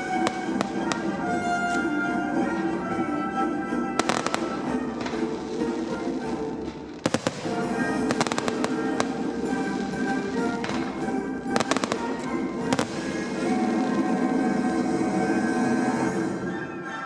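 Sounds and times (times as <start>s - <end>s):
fireworks bangs and crackles: 0.0s - 16.0s
music: 0.0s - 17.0s.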